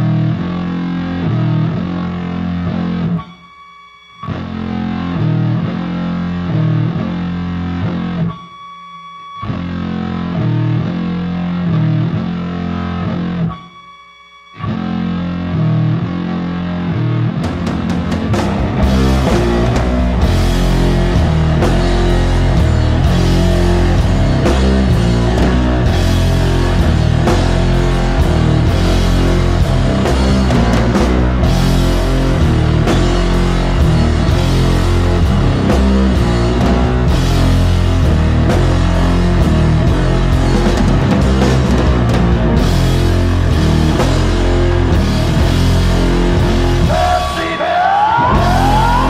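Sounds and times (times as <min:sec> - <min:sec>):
distorted electric guitar riff: 0:00.0 - 0:13.9, 0:14.5 - 0:49.0
rock band with drums: 0:00.0 - 0:14.0, 0:14.6 - 0:49.0.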